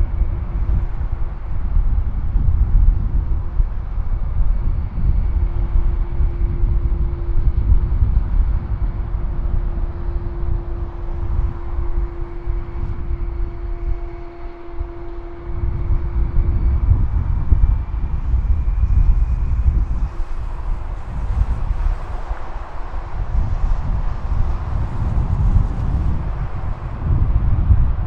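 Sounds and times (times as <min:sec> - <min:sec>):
jet engines humming: 0:00.0 - 0:28.0
wind buffeting microphone: 0:00.0 - 0:28.0.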